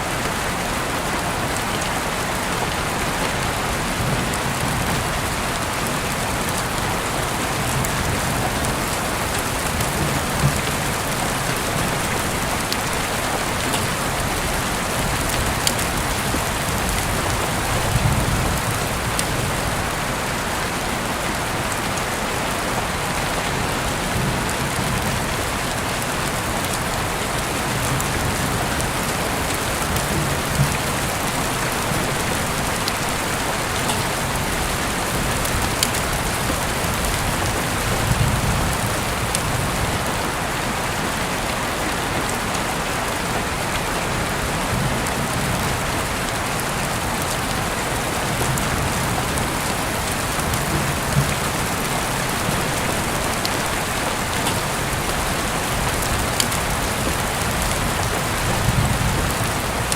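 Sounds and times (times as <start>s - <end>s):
heavy rain falling: 0.0s - 59.9s
raindrops striking close by: 0.0s - 59.9s.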